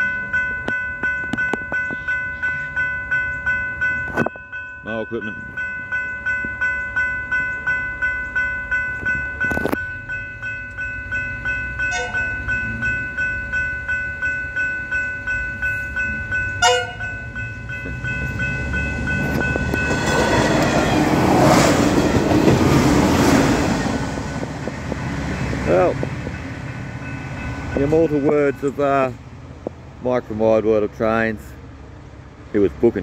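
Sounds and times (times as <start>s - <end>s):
level crossing bells ringing: 0.0s - 24.4s, 25.6s - 29.2s
train rushing on rails: 0.0s - 33.0s.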